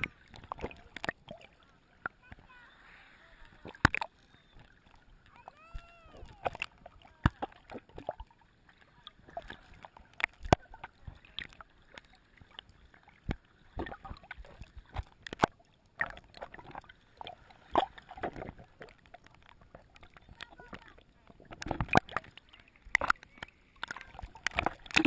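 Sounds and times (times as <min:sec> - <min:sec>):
water gurgling and sloshing: 0:00.0 - 0:25.0.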